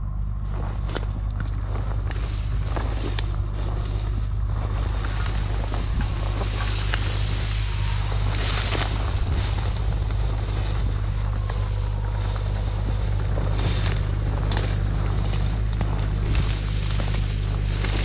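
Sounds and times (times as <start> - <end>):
diesel engine idling: 0.0 - 18.0
reeds and grass swishing: 0.3 - 18.0.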